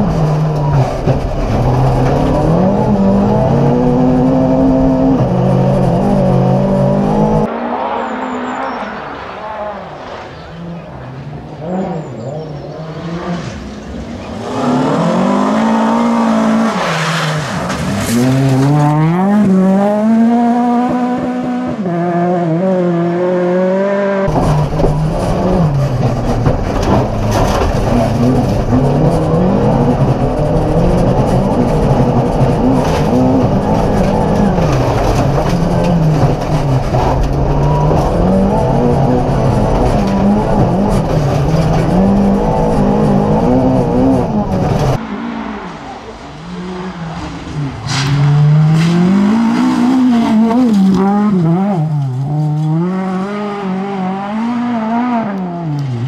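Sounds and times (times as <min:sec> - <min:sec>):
low rumble and road noise: 0:00.0 - 0:56.0
rally car engine revving: 0:00.0 - 0:56.0.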